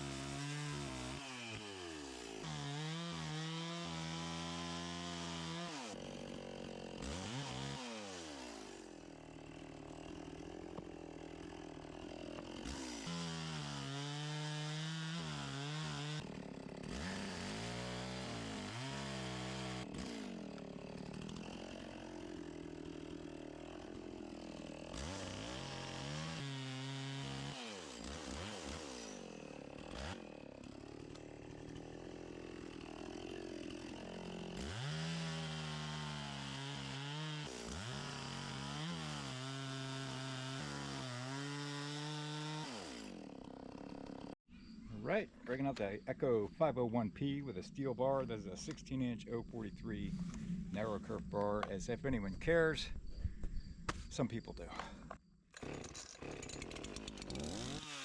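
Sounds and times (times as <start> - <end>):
chainsaw cutting log: 0.0 - 44.4, 53.9 - 58.0.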